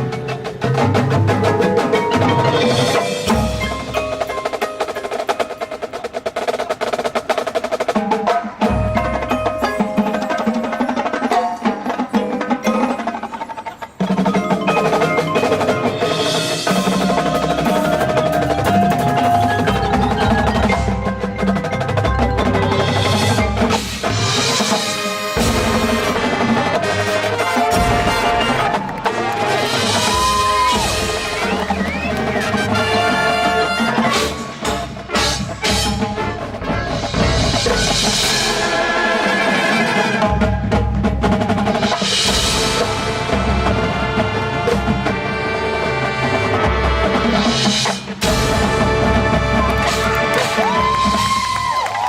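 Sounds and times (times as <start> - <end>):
marching band playing: 0.0 - 52.0
marching percussion: 0.0 - 52.0.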